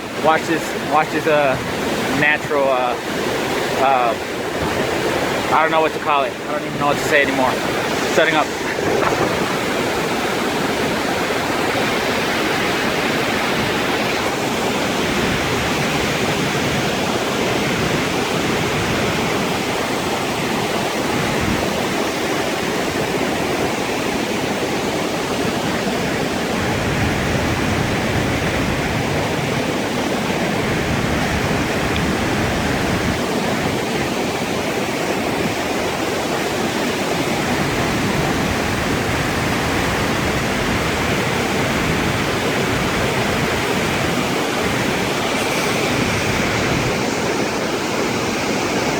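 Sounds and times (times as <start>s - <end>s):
waterfall rushing water: 0.0s - 48.9s.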